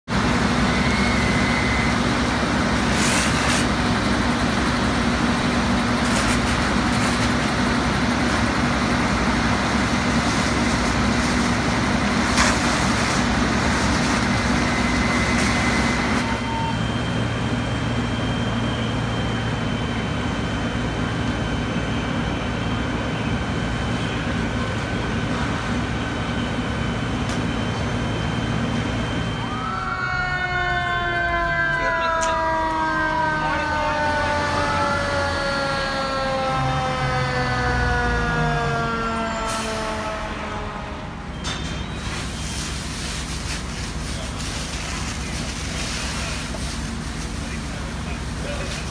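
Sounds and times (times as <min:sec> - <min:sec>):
diesel engines running under load: 0:00.1 - 0:48.9.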